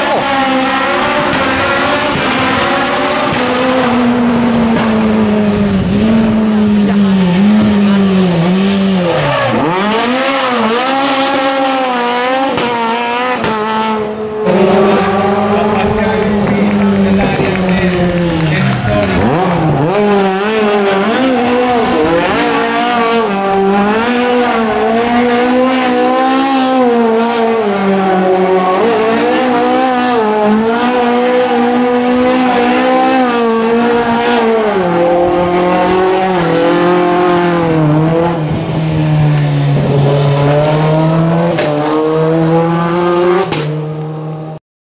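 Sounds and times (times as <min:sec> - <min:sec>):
rally car engine revving hard: 0:00.0 - 0:44.6.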